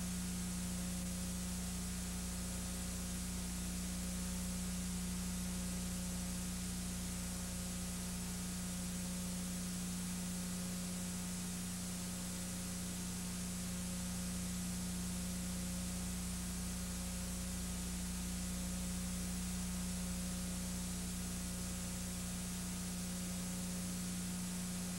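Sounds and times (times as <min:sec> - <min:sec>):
low electrical hum: 0:00.0 - 0:24.9.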